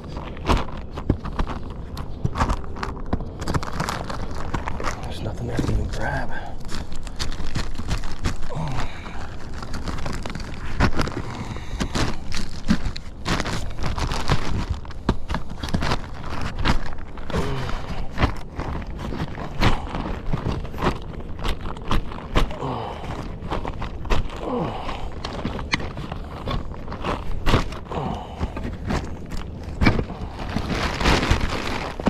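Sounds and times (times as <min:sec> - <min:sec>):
shingles being handled and pulled: 0:00.0 - 0:32.0.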